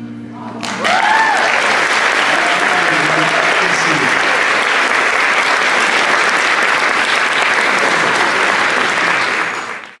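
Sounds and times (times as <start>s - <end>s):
audience applauding: 0.6s - 10.0s.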